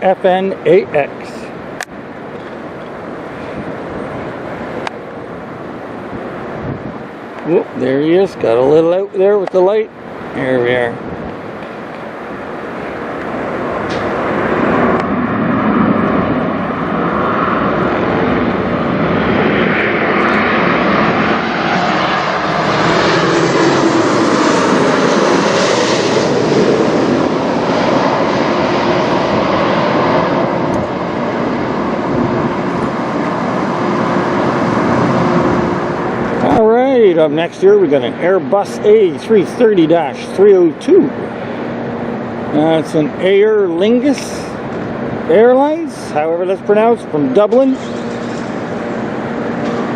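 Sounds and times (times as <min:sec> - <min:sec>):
jet airliner flying over: 0:00.0 - 0:49.9.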